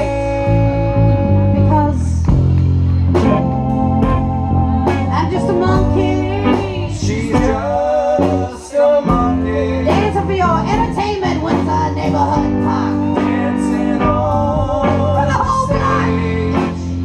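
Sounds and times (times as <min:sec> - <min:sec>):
bass: 0:00.0 - 0:17.0
drums: 0:00.0 - 0:17.0
electric guitar: 0:00.0 - 0:17.0
organ-toned keyboard: 0:00.0 - 0:17.0
woman singing lead: 0:03.1 - 0:17.0.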